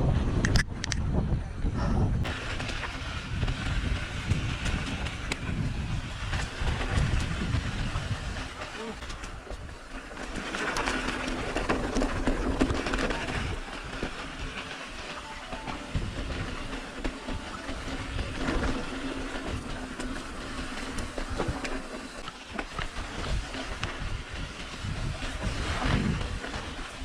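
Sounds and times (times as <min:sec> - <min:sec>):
wind rumble on microphone: 0:00.0 - 0:14.7, 0:15.8 - 0:27.0
bike rattling and clicking: 0:02.2 - 0:15.2, 0:15.8 - 0:27.0.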